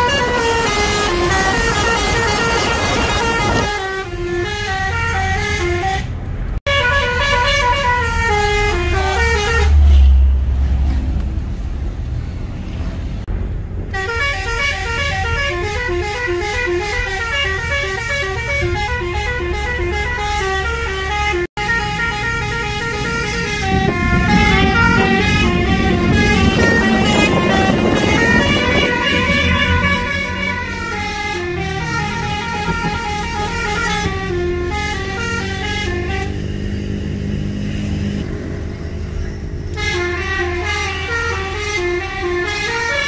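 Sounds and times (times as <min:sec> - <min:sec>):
multi-trumpet car horn melodies: 0:00.0 - 0:06.1, 0:06.7 - 0:10.4, 0:13.9 - 0:36.7, 0:39.7 - 0:43.0
low engine and road rumble: 0:00.0 - 0:43.0.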